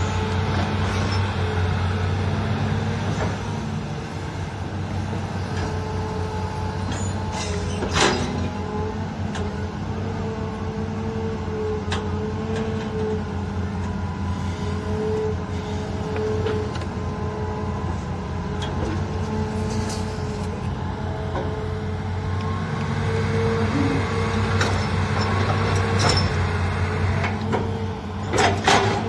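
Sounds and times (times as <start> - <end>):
excavator diesel engine rumble: 0.0 - 29.0
steady hydraulic whine: 0.0 - 29.0.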